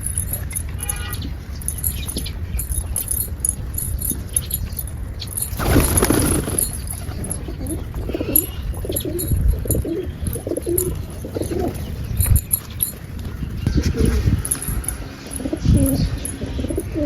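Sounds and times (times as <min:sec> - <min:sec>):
pigeons cooing: 0:00.2 - 0:17.0.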